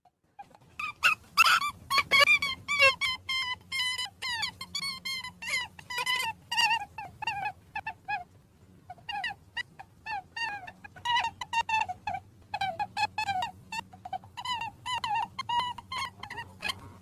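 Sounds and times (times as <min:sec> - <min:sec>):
rabbits squeaking: 0:00.4 - 0:17.0.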